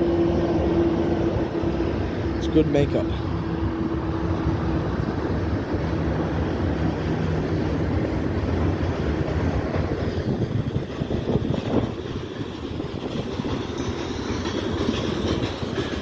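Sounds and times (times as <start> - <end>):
diesel locomotive engine drone: 0.0 - 16.0
train cars rumbling on rails: 0.0 - 16.0.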